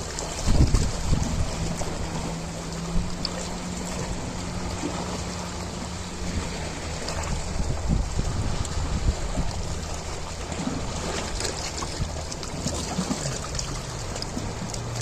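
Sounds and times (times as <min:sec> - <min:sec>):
low steady hum: 0:00.0 - 0:15.0
ocean waves washing: 0:00.0 - 0:15.0.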